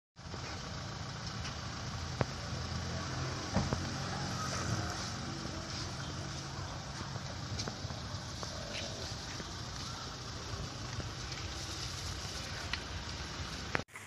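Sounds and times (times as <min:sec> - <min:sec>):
vehicle engine idling: 0:00.2 - 0:14.0.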